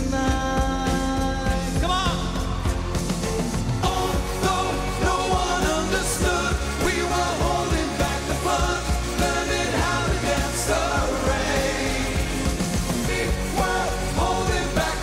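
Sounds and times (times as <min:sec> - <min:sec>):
man singing: 0:00.0 - 0:02.8, 0:03.8 - 0:15.0
pop band playing: 0:00.0 - 0:15.0.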